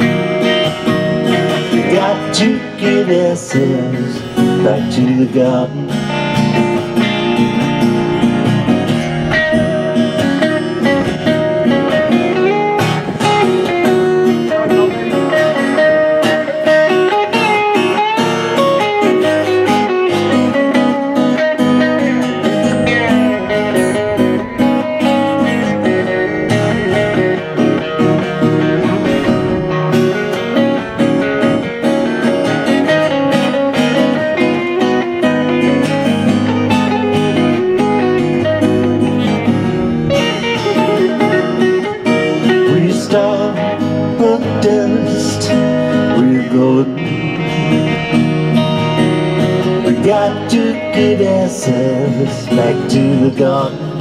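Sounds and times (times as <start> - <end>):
amplified acoustic guitar: 0.0 - 54.0
electric guitar lead with bent notes: 0.0 - 54.0.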